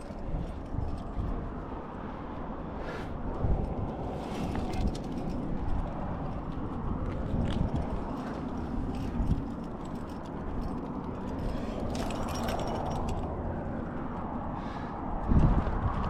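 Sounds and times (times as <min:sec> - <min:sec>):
metal climbing gear clinking: 0:00.0 - 0:02.3, 0:03.4 - 0:14.3.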